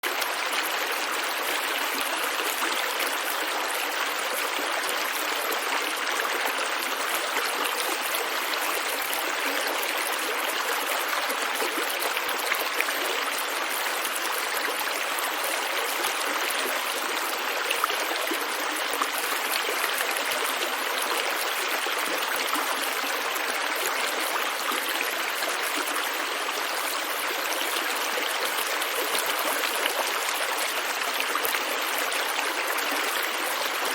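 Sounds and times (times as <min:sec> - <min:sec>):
stream of running water: 0:00.0 - 0:33.9.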